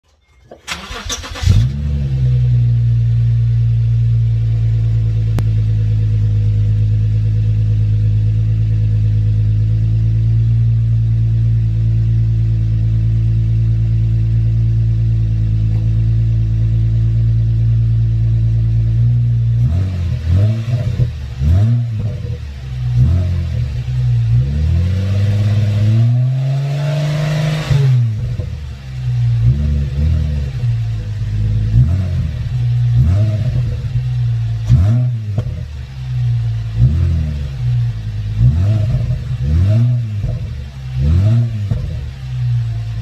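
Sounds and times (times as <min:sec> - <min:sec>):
car engine starting and idling: 0:00.1 - 0:43.0
engine revs: 0:00.6 - 0:11.0, 0:14.9 - 0:43.0.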